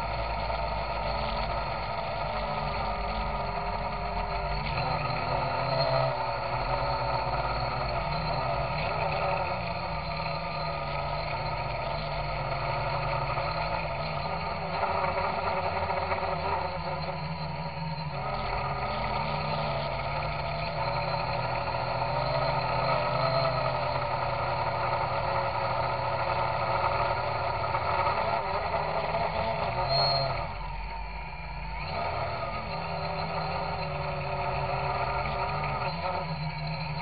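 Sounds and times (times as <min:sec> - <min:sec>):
drone motors humming: 0:00.0 - 0:37.0.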